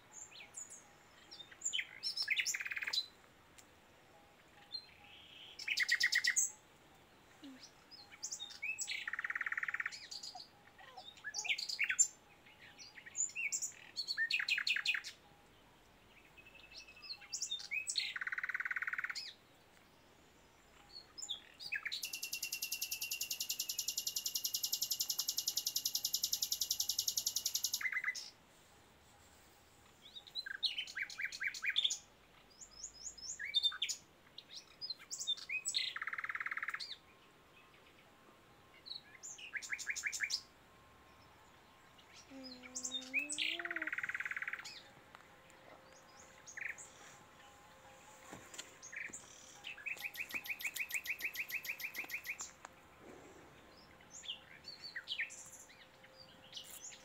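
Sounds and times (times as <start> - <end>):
wild birds chirping and whistling: 0.0 - 3.2, 4.3 - 28.4, 29.1 - 38.1, 38.7 - 47.6, 48.8 - 57.0.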